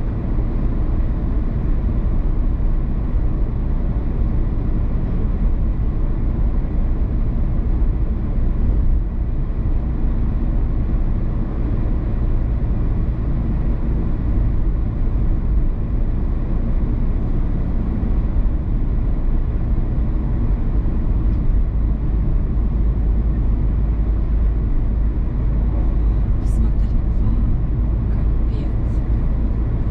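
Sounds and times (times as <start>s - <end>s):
road and tyre rumble: 0.0s - 29.9s.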